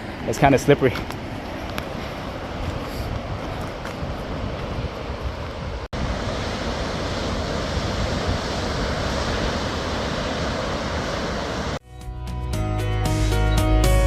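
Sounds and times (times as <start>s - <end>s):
ocean surf: 0.0s - 11.8s
wind rumbling on microphone: 0.0s - 11.8s.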